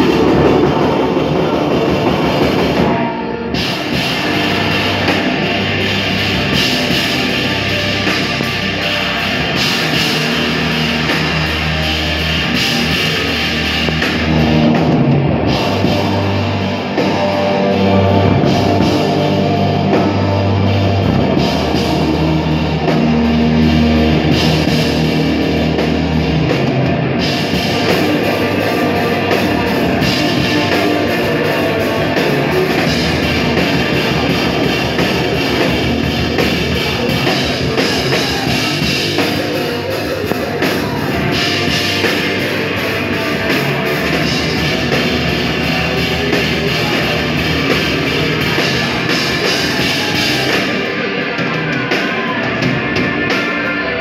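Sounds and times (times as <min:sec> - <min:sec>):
distorted guitar and bass: 0:00.0 - 0:54.0
drum kit: 0:00.0 - 0:54.0.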